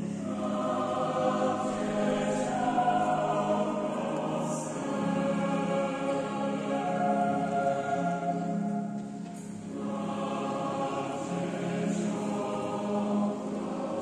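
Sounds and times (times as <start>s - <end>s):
choir singing a carol: 0.0s - 14.0s.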